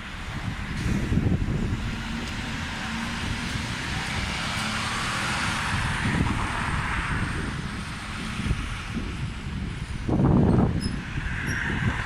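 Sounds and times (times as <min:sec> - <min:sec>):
traffic noise: 0:00.0 - 0:12.0
wind on microphone: 0:00.0 - 0:12.0.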